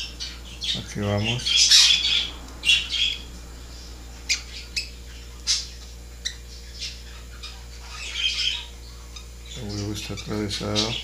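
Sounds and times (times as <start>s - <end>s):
bird squawking: 0.0s - 11.0s.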